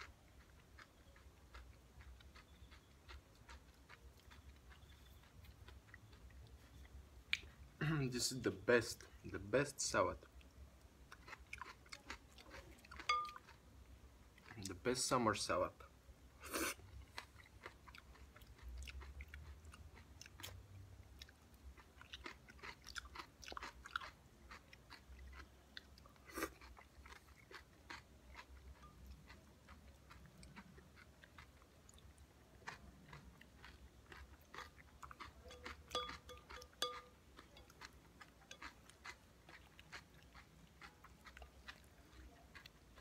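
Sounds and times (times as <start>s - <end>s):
chewing crunchy salad: 0.0s - 15.5s, 16.4s - 43.0s.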